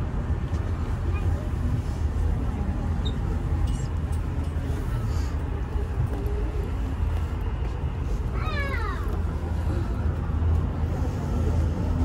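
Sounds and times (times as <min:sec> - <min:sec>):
low rumble inside cable car: 0:00.0 - 0:12.0.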